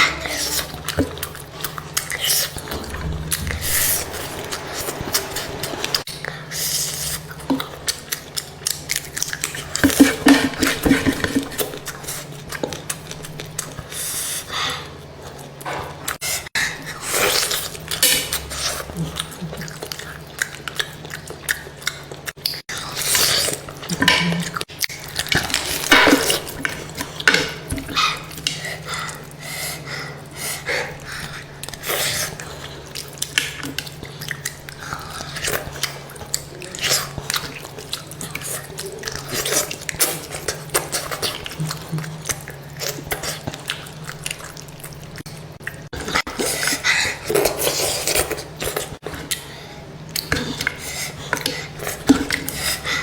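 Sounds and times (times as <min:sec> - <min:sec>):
person chewing food: 0:00.0 - 0:53.0
steady low hum: 0:00.0 - 0:53.0.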